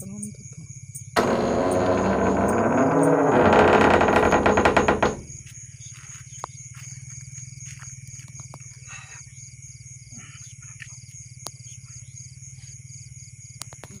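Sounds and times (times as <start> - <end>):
insect high steady trill: 0.0 - 14.0
insect short chirp: 0.0 - 14.0.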